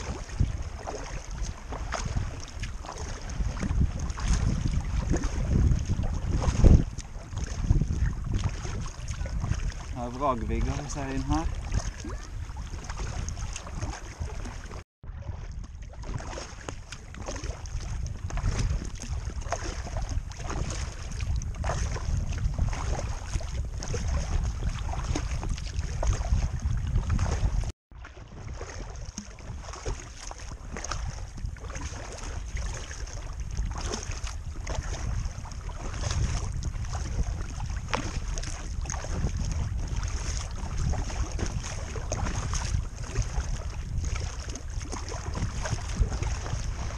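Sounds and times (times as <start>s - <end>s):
paddle strokes splashing: 0.0s - 46.9s
water lapping at kayak: 0.0s - 46.9s
wind rumbling on microphone: 0.0s - 46.9s.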